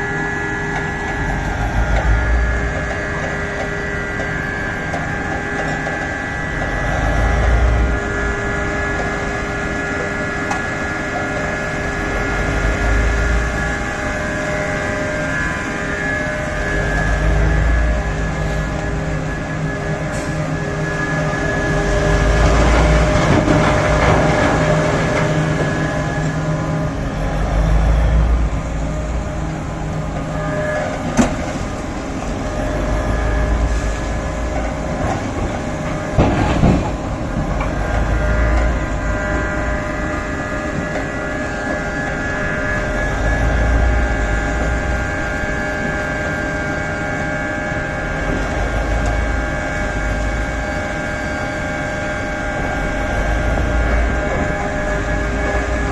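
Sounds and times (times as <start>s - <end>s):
excavator engine under load: 0.0s - 55.9s.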